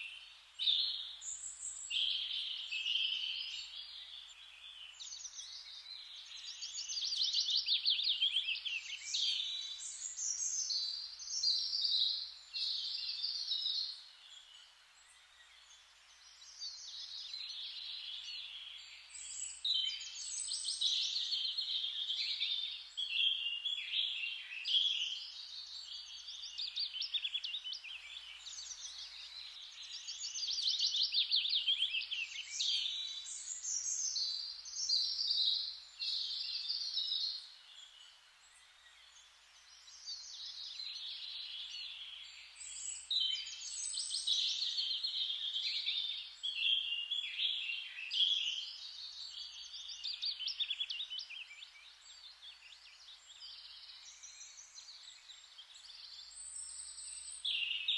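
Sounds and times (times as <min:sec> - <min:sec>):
songbirds singing: 0:00.0 - 0:57.9.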